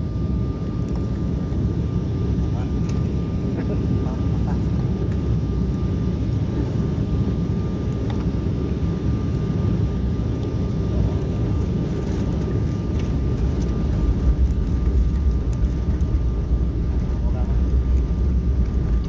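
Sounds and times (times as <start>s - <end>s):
faint steady whine: 0.0s - 19.0s
jet engine cabin rumble: 0.0s - 19.0s.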